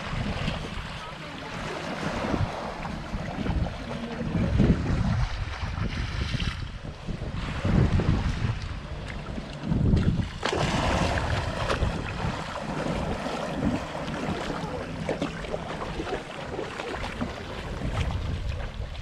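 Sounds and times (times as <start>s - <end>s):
rush of sea water: 0.0s - 19.0s
wind buffeting microphone: 0.0s - 19.0s.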